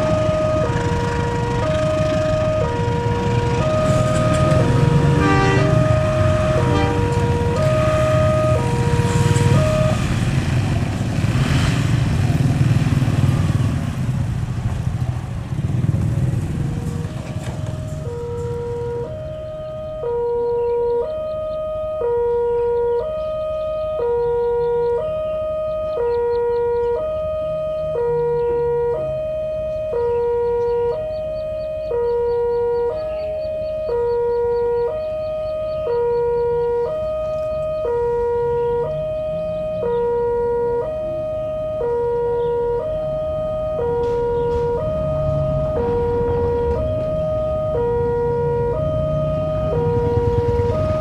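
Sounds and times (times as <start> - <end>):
two-tone electronic warning alarm: 0.0 - 10.6, 16.6 - 51.0.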